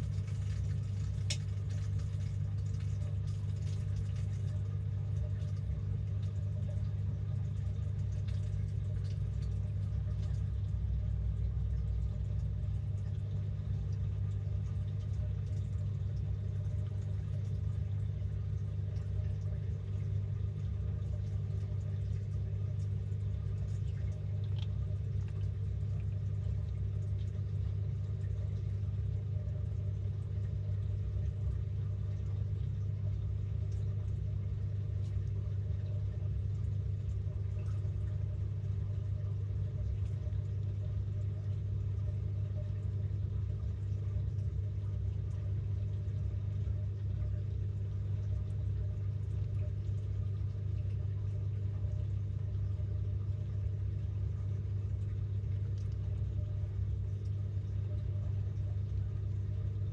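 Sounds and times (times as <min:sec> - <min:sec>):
washing machine low hum: 0:00.0 - 0:59.9.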